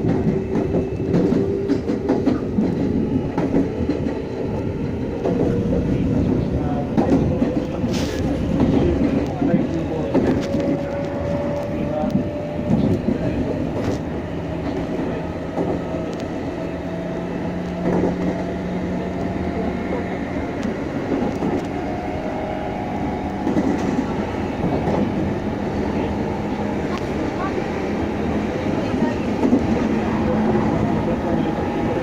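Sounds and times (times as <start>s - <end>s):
train wheels rolling on rail: 0.0s - 32.0s.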